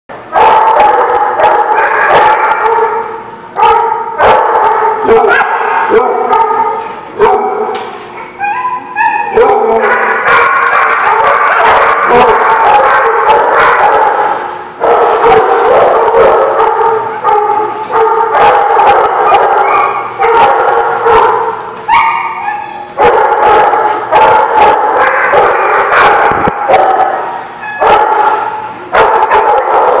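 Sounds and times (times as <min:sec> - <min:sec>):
dogs barking and yipping: 0:00.2 - 0:30.0.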